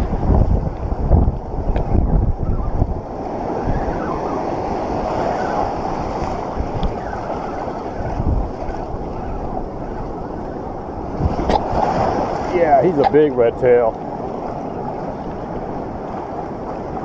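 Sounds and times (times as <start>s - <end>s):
ocean surf rushing: 0.0s - 17.0s
wind on microphone: 0.0s - 17.0s.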